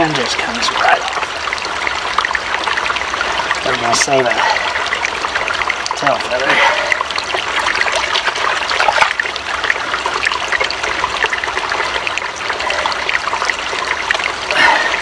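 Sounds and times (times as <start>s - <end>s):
spring water trickling and splashing: 0.0s - 15.0s.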